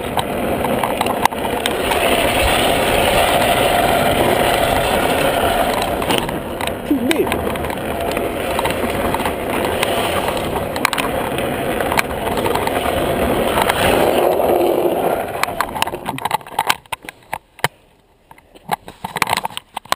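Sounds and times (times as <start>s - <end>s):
wind noise: 0.0s - 17.4s
wheels rumbling on asphalt: 0.0s - 19.9s.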